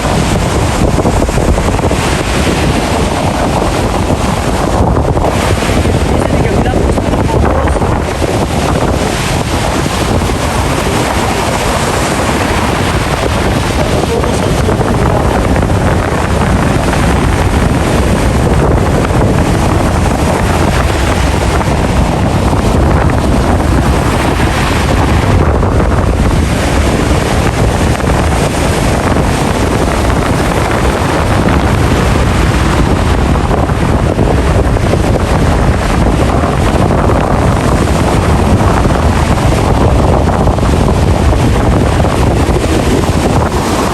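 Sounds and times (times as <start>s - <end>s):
ocean waves rushing: 0.0s - 43.9s
wind noise on microphone: 0.0s - 43.9s.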